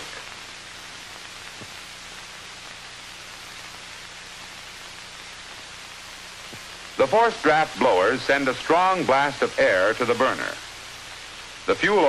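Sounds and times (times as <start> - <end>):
film soundtrack hiss: 0.0 - 12.0
low electrical hum: 0.0 - 12.0.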